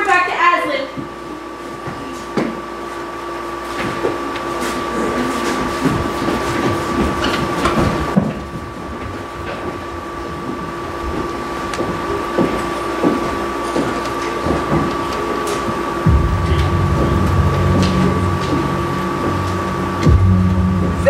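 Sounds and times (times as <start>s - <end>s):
steady two-tone hum: 0.0s - 21.0s
footsteps and shuffling on stage: 0.9s - 21.0s.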